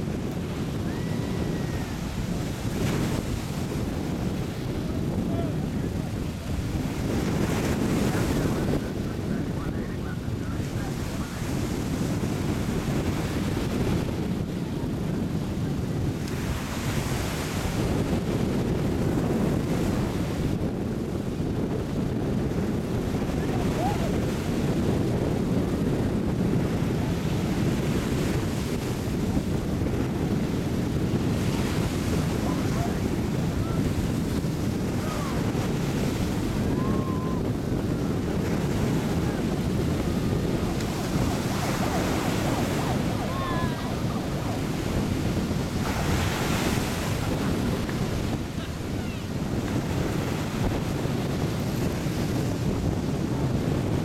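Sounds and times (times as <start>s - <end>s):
surf breaking on beach: 0.0s - 54.0s
wind buffeting microphone: 0.0s - 54.0s.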